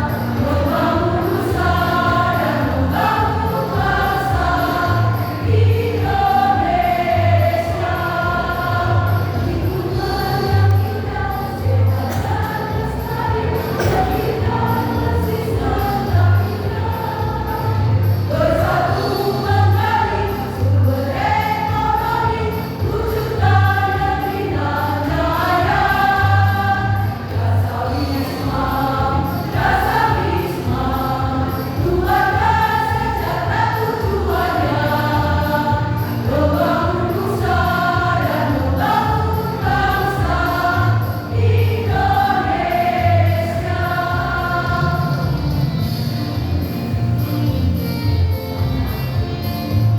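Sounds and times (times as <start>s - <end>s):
choir singing: 0.0s - 45.7s.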